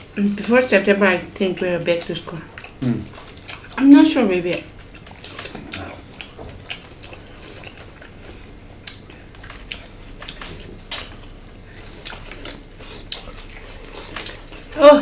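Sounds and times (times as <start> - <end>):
people chewing wetly: 0.0 - 15.0.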